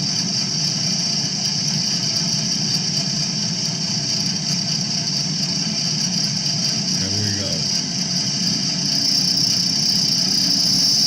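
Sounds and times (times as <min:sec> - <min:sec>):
milling machine humming and whining: 0:00.0 - 0:11.0.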